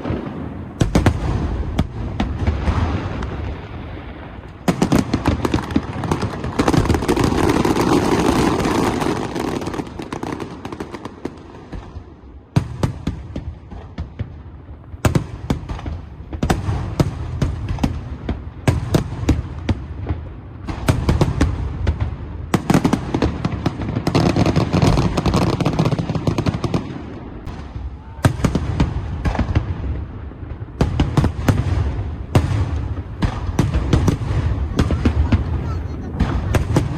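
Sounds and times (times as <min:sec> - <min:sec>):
fireworks bursting: 0:00.0 - 0:36.9
fireworks crackling: 0:00.0 - 0:36.9.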